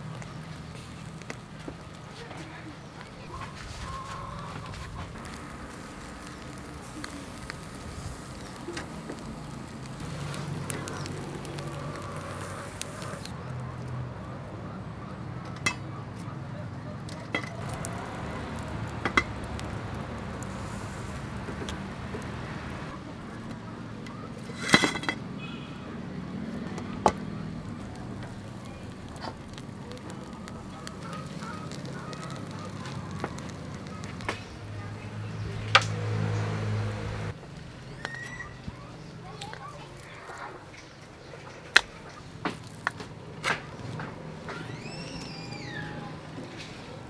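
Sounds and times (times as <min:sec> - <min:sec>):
grilling crackle and hiss: 0:00.0 - 0:47.0.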